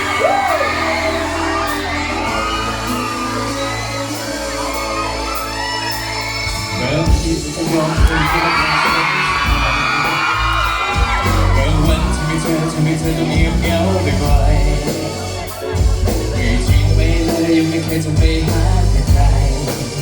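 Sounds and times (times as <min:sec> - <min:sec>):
audience cheering and screaming: 0:00.0 - 0:20.0
heavy bass beat: 0:00.0 - 0:20.0
instrumental pop music: 0:00.0 - 0:20.0.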